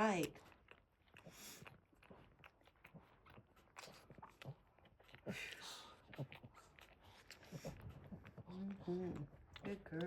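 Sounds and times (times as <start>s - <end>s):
dog licking puppies: 0.0s - 10.0s.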